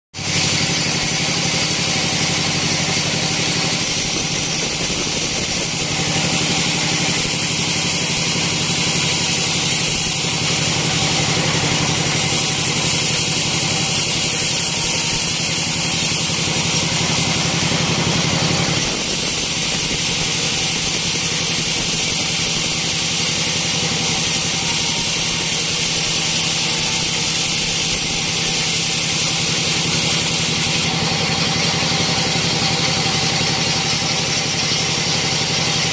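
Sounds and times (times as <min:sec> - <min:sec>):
hissing sawing noise: 0:00.2 - 0:35.9.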